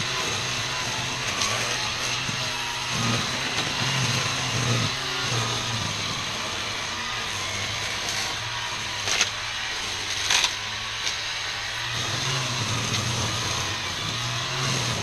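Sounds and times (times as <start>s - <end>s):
string trimmer cutting weeds: 0.0s - 15.0s.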